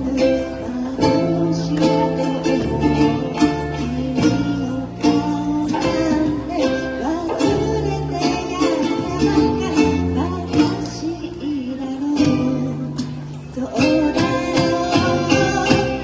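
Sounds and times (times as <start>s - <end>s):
bass line: 0.0s - 16.0s
person singing lead vocal: 0.0s - 16.0s
strummed ukuleles and guitar: 0.0s - 16.0s.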